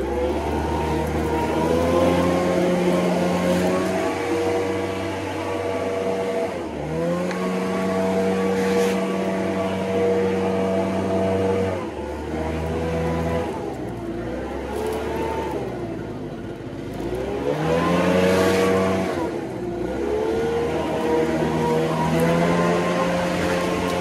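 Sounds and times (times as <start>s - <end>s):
leaf blower running: 0.0s - 24.0s.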